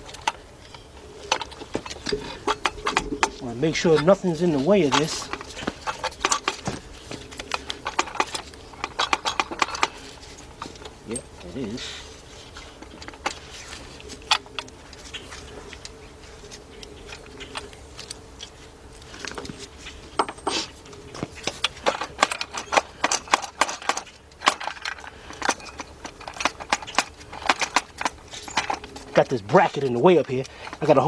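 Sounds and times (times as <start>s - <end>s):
metal tools clinking and knocking: 0.0s - 11.8s, 12.4s - 31.0s.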